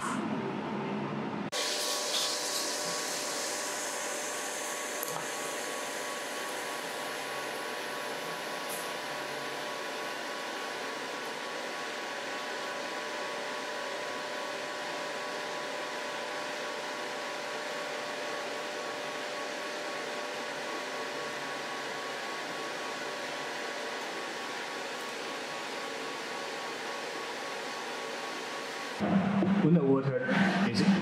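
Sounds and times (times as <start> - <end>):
water cooling pump and fan whirring: 0.0 - 31.0.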